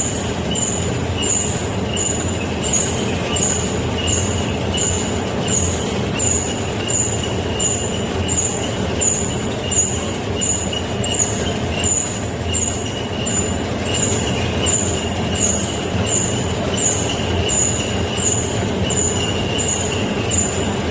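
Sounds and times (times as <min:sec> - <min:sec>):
machine running: 0:00.0 - 0:20.9.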